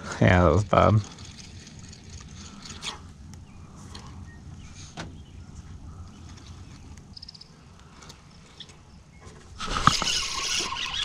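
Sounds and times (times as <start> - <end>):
low steady hum: 0.0 - 11.0
bird chirp: 1.1 - 11.0.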